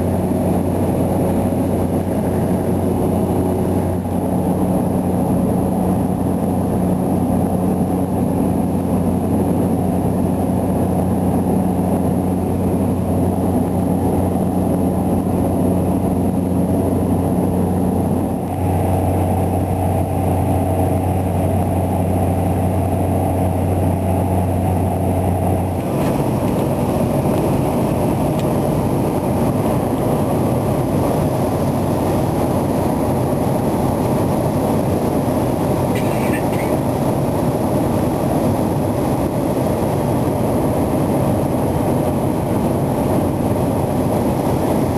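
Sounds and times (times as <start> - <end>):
turboprop engine droning: 0.0 - 44.9.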